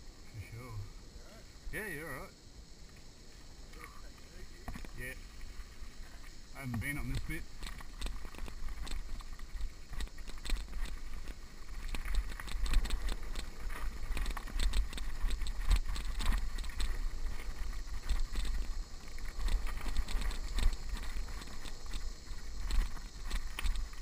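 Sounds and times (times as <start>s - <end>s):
mountain bike rattling on dirt trail: 1.6s - 24.0s.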